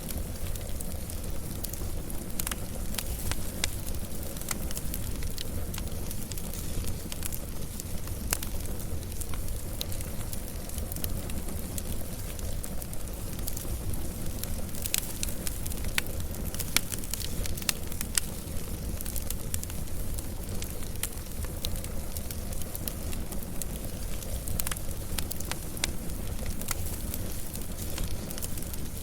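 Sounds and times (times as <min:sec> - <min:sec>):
fire crackling and popping: 0:00.0 - 0:29.0
fire flames rumbling: 0:00.0 - 0:29.0.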